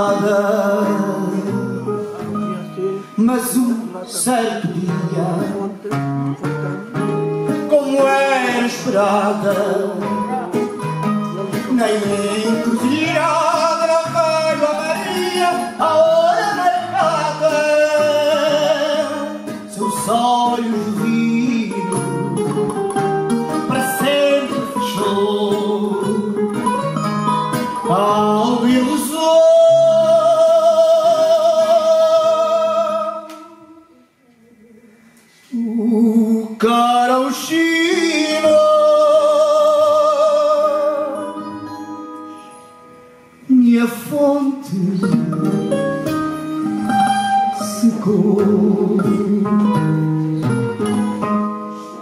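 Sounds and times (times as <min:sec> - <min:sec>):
guitars playing: 0:00.0 - 0:33.9, 0:37.3 - 0:52.0
man singing with vibrato: 0:00.0 - 0:34.2, 0:35.4 - 0:52.0.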